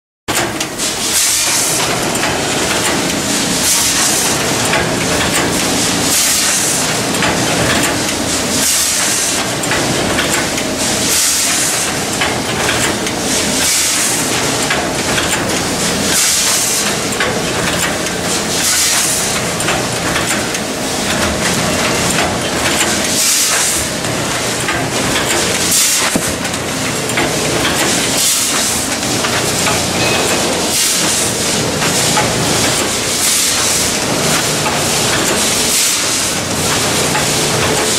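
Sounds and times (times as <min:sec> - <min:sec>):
machine mechanical clatter: 0:00.3 - 0:37.9.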